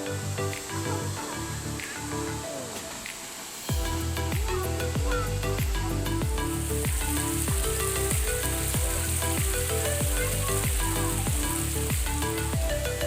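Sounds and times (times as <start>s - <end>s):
music with steady beat and bass: 0.0s - 3.1s, 3.7s - 13.0s
steady hiss: 0.0s - 13.0s.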